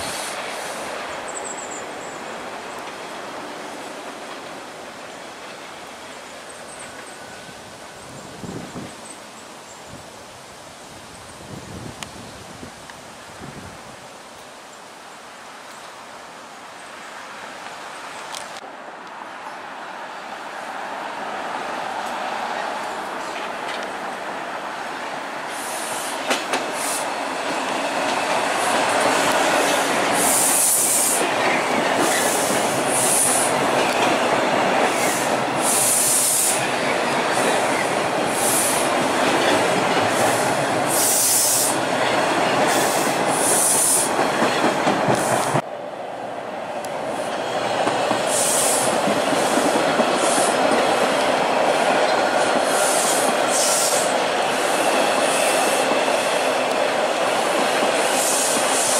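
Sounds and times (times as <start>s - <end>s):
subway train wheels rumbling: 0.0s - 14.1s, 16.9s - 58.9s.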